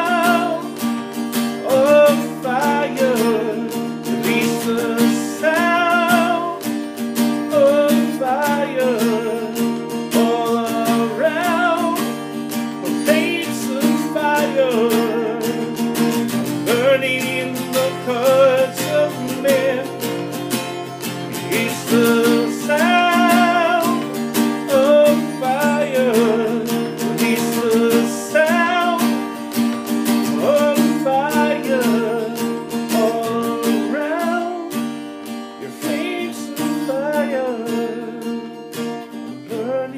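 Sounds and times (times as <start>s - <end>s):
person singing with vibrato: 0.0s - 39.9s
strummed acoustic guitar: 0.0s - 39.9s.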